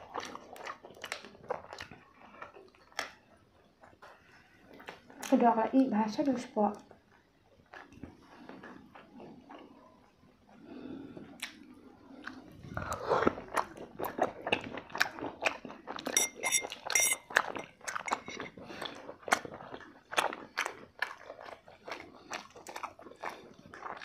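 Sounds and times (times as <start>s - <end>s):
chewing and crunching: 0.0s - 5.5s, 6.2s - 24.0s.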